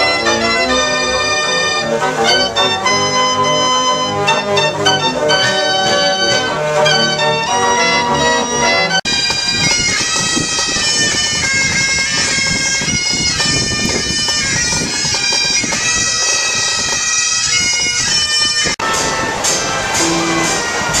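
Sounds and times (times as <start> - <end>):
bagpipes playing tune: 0.0 - 21.0
organ music: 0.0 - 21.0.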